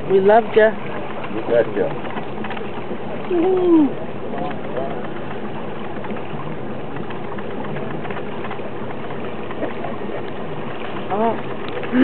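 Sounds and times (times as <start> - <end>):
boat rushing through water: 0.0 - 12.0
low even hum: 0.0 - 12.0.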